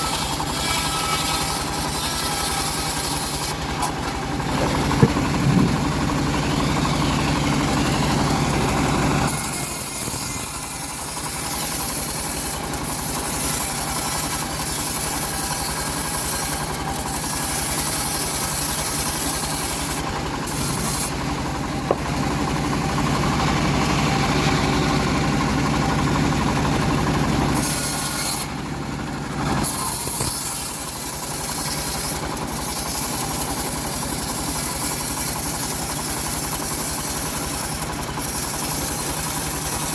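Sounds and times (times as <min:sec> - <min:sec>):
bandsaw sawmill cutting log: 0:00.0 - 0:39.9.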